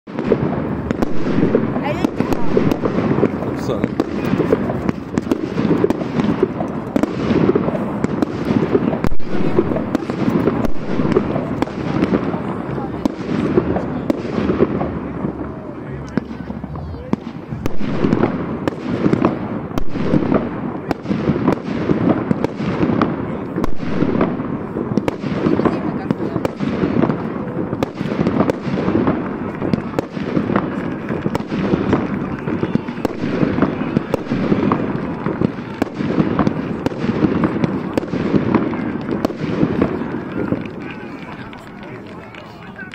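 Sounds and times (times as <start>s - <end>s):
fireworks bursting with sharp bangs: 0.0s - 42.9s
continuous din: 0.1s - 42.9s.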